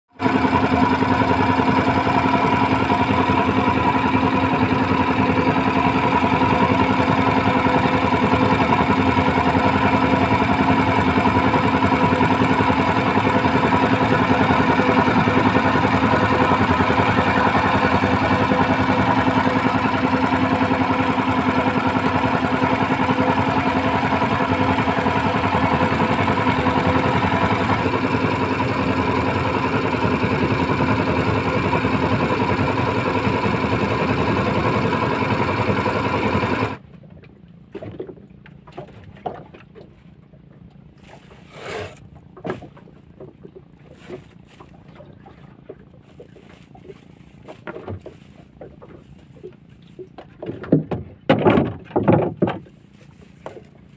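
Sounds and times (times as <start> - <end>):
boat motor running: 0.1 - 53.9.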